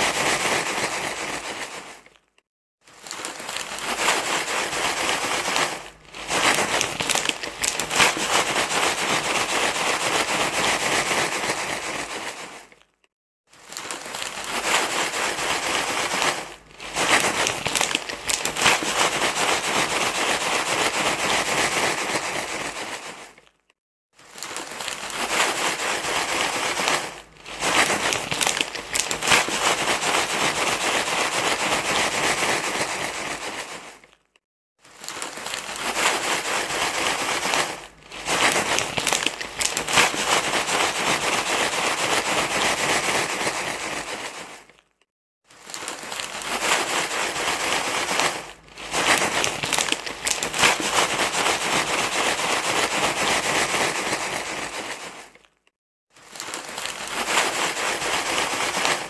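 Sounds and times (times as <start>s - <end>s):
crinkly material crumpling: 0.0s - 59.0s.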